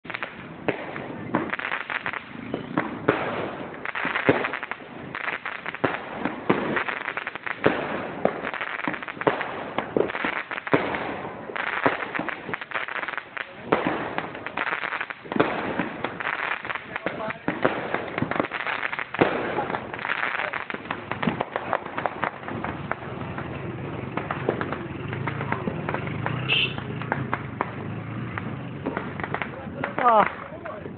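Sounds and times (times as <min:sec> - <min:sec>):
fireworks bangs and pops: 0:00.0 - 0:30.9
fireworks crackling: 0:00.0 - 0:30.9.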